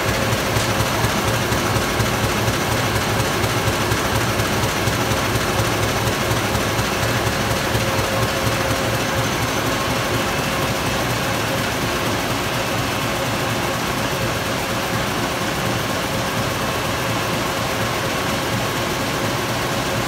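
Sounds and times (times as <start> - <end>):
printing press whirring: 0.0 - 20.0.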